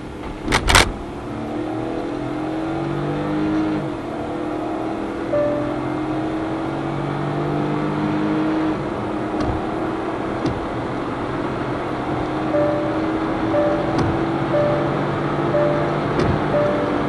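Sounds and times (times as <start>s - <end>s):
car engine at highway speed: 0.0s - 17.0s.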